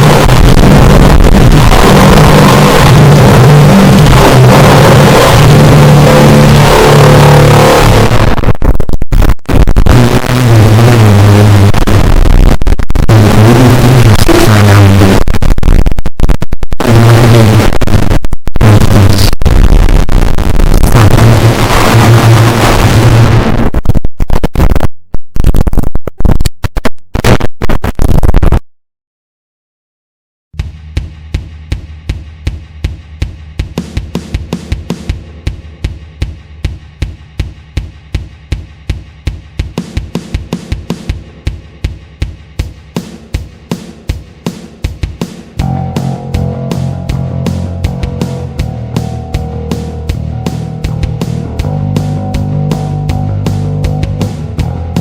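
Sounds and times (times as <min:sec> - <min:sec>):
distorted noise music: 0:00.0 - 0:28.6, 0:30.6 - 0:55.0.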